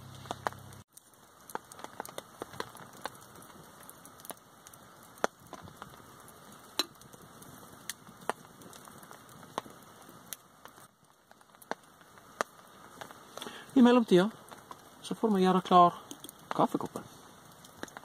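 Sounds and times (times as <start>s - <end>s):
faint hiss: 0.0s - 18.0s
twig fire crackling in stove: 0.0s - 18.0s.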